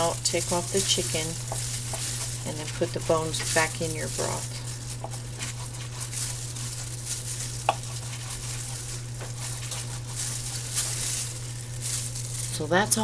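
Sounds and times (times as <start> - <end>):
plastic gloves crinkling: 0.0 - 13.0
steady low hum: 0.0 - 13.0.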